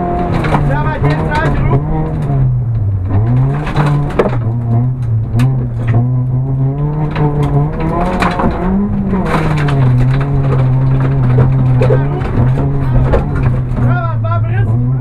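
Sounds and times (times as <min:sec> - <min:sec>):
rally car engine revving: 0:00.0 - 0:15.0
sharp knocks and cracks: 0:00.2 - 0:06.1, 0:06.8 - 0:14.0.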